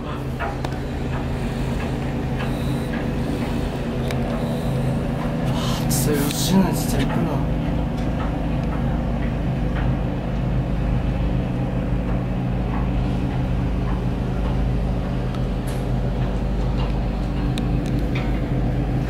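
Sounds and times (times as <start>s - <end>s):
cable car cabin hum: 0.0s - 19.0s.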